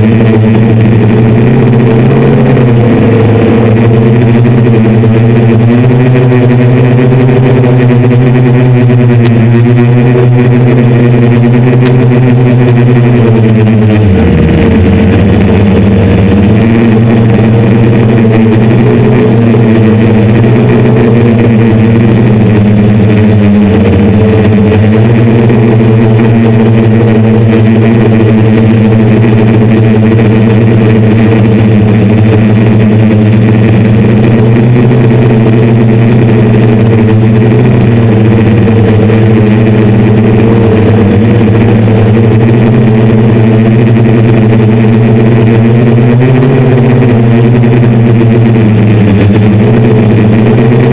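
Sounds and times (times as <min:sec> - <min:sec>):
drone motors humming: 0:00.0 - 0:50.9.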